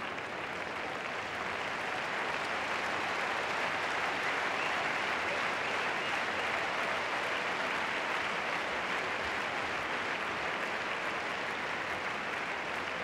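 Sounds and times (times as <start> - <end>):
arena crowd applauding: 0.0 - 13.0.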